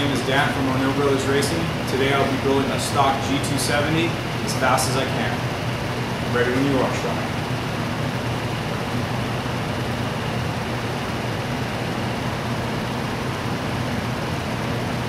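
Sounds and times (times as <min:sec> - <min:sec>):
workshop hum and hiss: 0:00.0 - 0:15.0.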